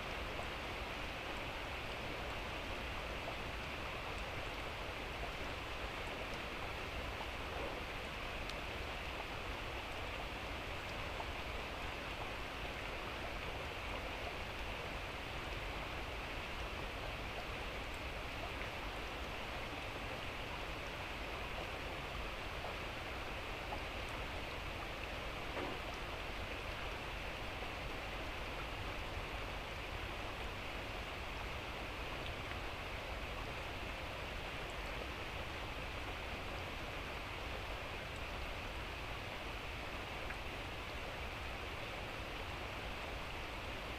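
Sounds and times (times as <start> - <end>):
light drizzling rain: 0.0 - 43.9.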